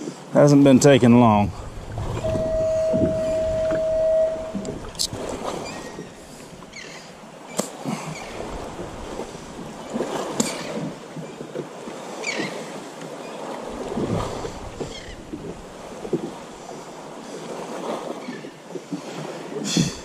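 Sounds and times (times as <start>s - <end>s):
water splashes: 0.0s - 20.0s
waves lapping against boat hull: 0.0s - 20.0s.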